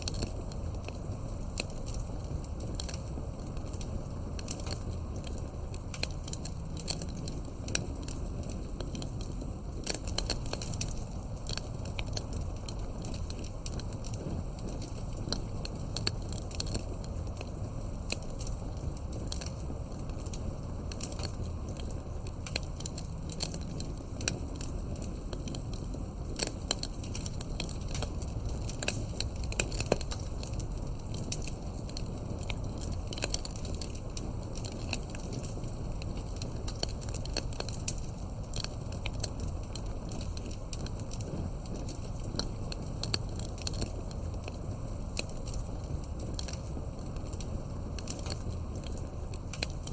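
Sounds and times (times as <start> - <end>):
campfire crackling and popping: 0.0 - 49.9
low rumble of flame: 0.0 - 49.9.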